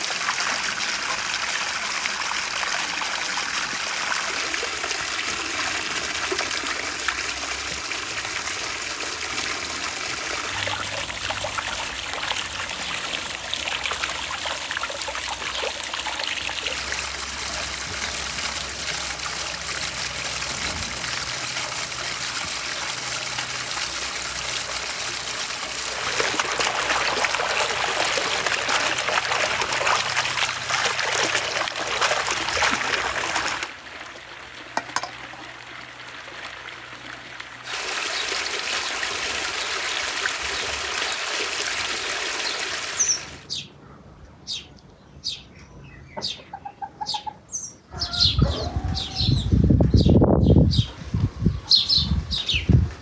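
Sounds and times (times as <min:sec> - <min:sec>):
fountain water splashing and trickling: 0:00.0 - 0:43.6.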